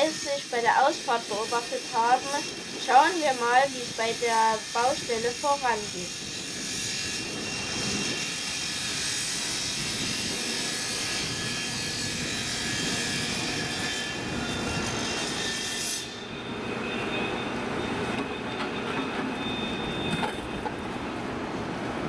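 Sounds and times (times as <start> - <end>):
faint high whining tones: 0.0 - 21.3
diesel locomotive running: 0.0 - 22.0.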